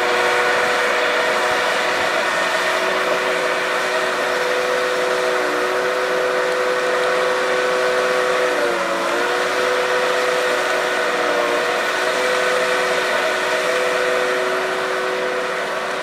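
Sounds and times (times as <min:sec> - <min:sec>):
diesel engine and hydraulics whine: 0:00.0 - 0:16.0.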